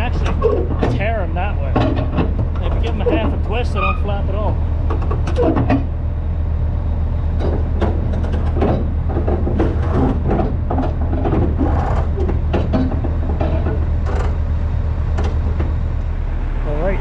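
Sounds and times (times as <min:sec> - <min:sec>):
knocks and rattles: 0:00.0 - 0:06.0, 0:07.3 - 0:15.8
truck diesel engine idling: 0:00.0 - 0:17.0.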